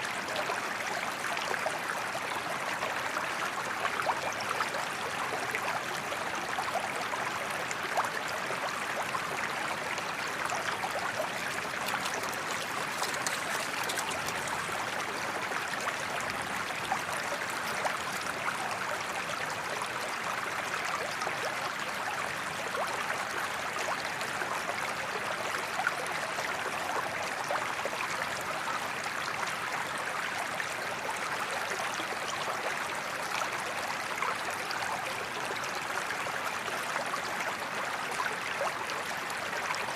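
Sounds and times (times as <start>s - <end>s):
creek flowing: 0.0s - 39.9s.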